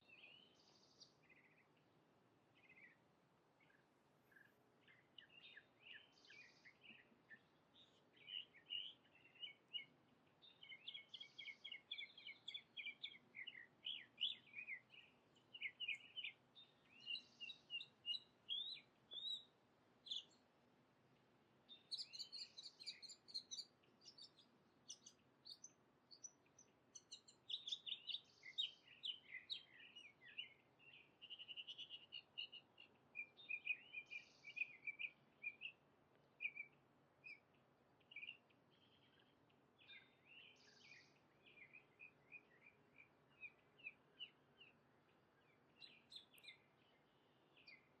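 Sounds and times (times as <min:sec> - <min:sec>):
birds chirping: 0:02.6 - 0:20.4, 0:21.7 - 0:48.0.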